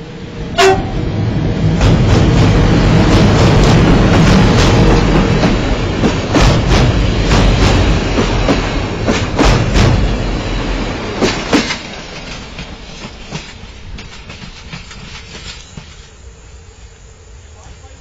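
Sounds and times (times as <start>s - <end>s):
train rumble: 0.0s - 18.0s
train wheels clicking over rail joints: 1.6s - 16.2s.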